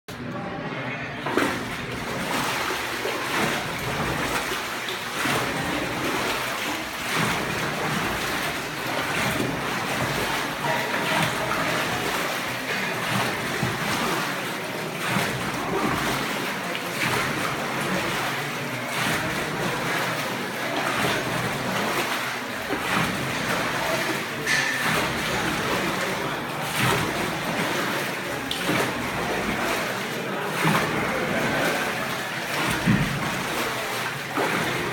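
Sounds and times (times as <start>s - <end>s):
churning water: 0.2s - 34.9s
paddle strokes splashing water: 1.2s - 34.9s.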